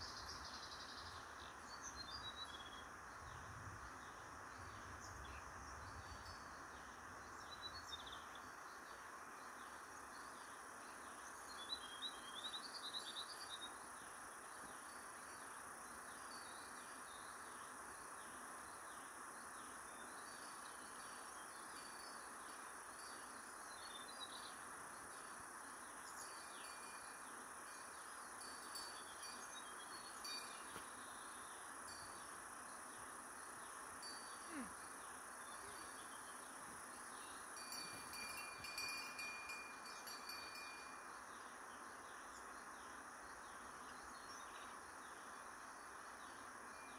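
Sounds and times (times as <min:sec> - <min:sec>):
faint insect drone: 0:00.0 - 0:46.9.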